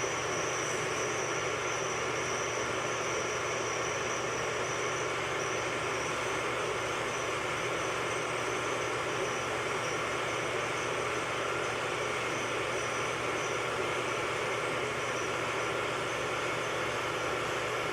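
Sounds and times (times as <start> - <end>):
metal lathe running: 0.0 - 17.9.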